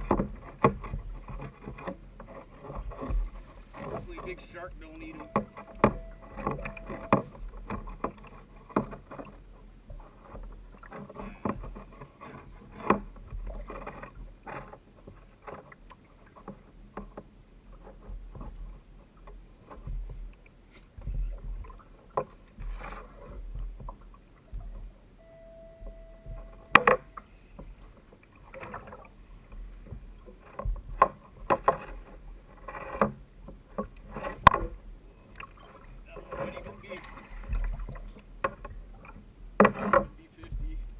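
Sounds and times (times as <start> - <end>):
gear knocking on boat: 0.0 - 40.9
water slapping against hull: 0.0 - 40.9.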